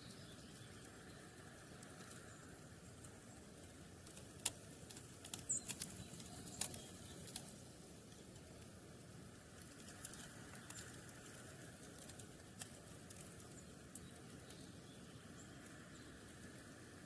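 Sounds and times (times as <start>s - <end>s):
birds tapping in snow: 0.0s - 17.0s
faint outdoor background: 0.0s - 17.0s.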